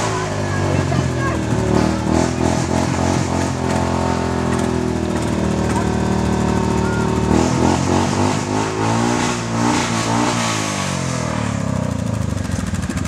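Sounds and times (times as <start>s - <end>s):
atv engine idling and revving: 0.0s - 13.0s.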